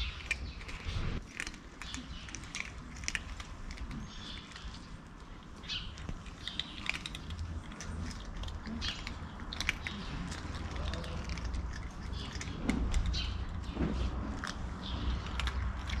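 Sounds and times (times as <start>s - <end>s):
cats crunching dry kibble: 0.0s - 16.0s.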